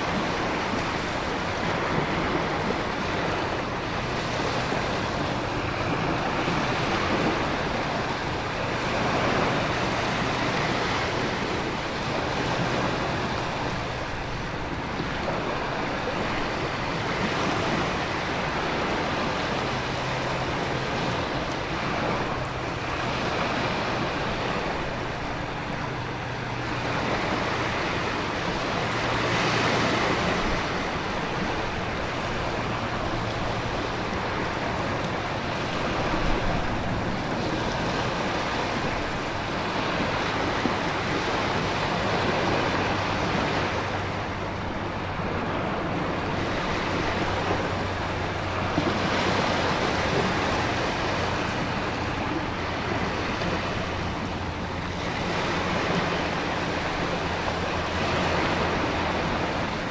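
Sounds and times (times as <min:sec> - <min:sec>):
ocean surf: 0:00.0 - 0:59.9
wind: 0:00.0 - 0:59.9.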